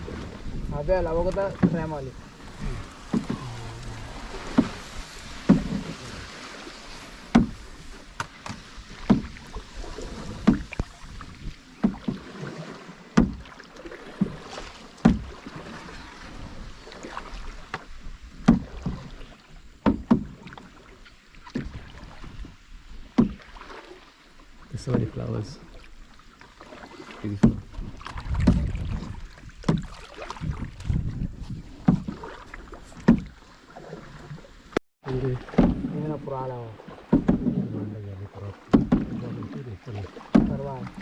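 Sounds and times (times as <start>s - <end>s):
water wash: 0.0s - 19.4s, 20.0s - 41.0s
paddle splash and knock: 0.0s - 41.0s
wind: 0.0s - 41.0s.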